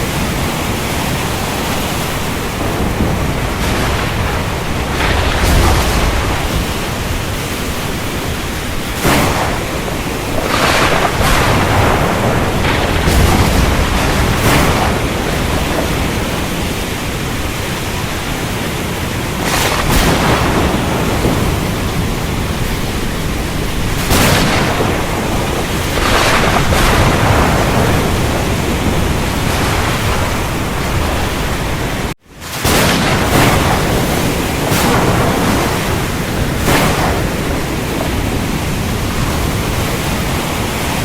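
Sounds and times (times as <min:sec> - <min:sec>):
heavy steady rain: 0:00.0 - 0:41.0
rushing thunder: 0:00.0 - 0:41.0.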